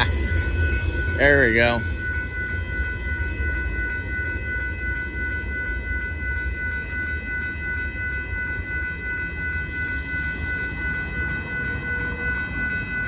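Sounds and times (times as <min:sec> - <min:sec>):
freight train wheels rumbling: 0:00.0 - 0:13.0
steady high tones: 0:00.0 - 0:13.0.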